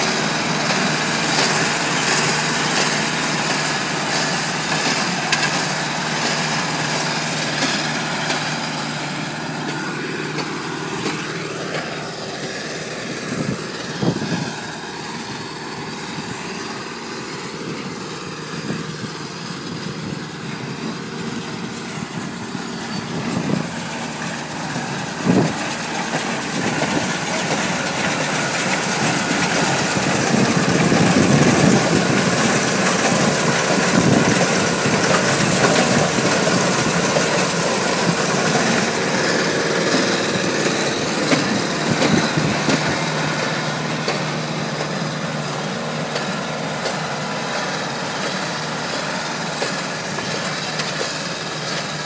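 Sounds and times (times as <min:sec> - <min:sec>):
hay baler running: 0:00.0 - 0:52.0
tractor engine running: 0:00.0 - 0:52.0.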